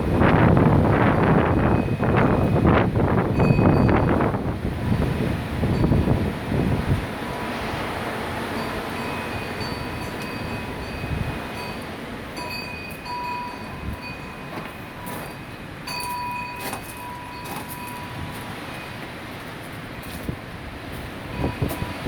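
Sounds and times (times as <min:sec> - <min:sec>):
strong wind gusting: 0:00.0 - 0:22.0
wind whistling: 0:00.0 - 0:22.0.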